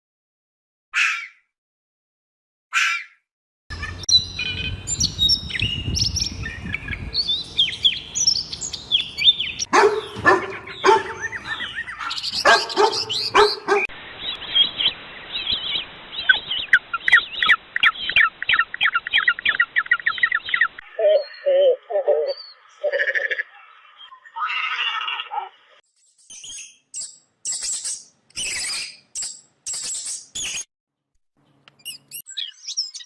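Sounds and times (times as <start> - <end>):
birds chirping: 3.7 - 30.6, 31.4 - 33.0.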